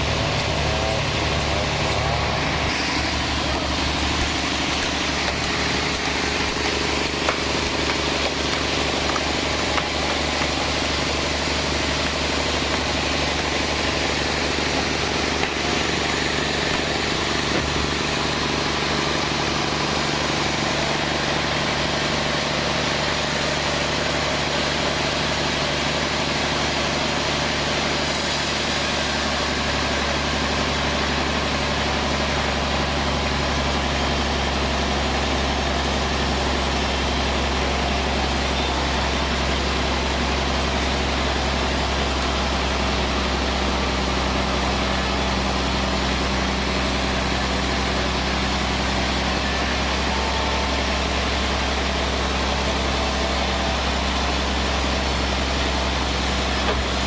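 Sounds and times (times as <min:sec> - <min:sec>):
band sawmill humming: 0:00.0 - 0:57.0.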